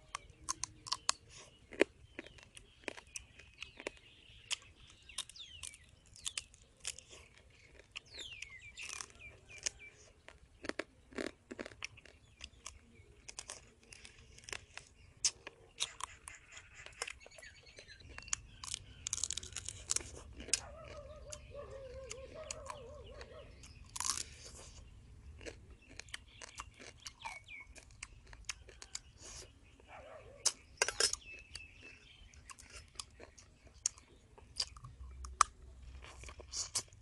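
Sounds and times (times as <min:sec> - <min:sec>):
crab shell crunching: 0:00.0 - 0:29.5, 0:30.4 - 0:37.0.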